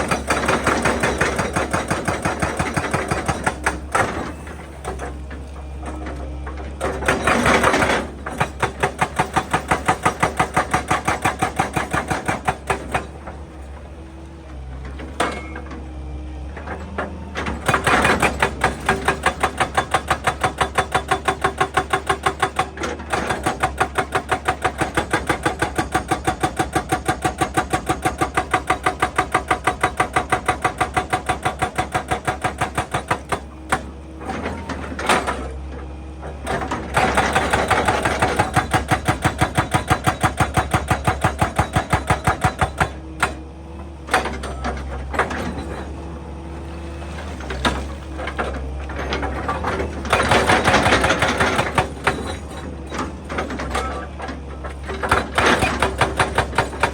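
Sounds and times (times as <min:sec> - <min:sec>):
hydraulic breaker hammering rock: 0:00.0 - 0:13.7, 0:16.8 - 0:35.6, 0:36.2 - 0:46.0, 0:46.6 - 0:56.9
excavator engine running: 0:00.0 - 0:56.9.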